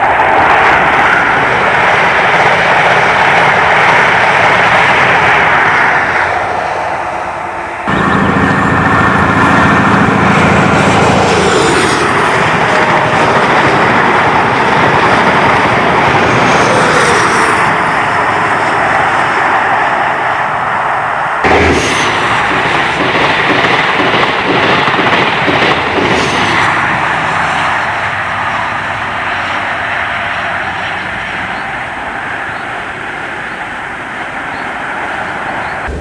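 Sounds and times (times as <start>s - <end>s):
diesel train passing at speed: 0.0s - 36.0s
train engine humming: 0.0s - 36.0s.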